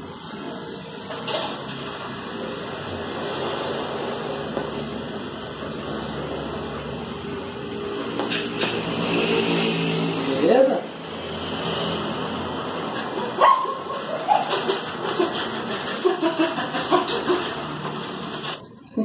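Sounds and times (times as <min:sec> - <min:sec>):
electric clipper running: 0:00.0 - 0:15.2.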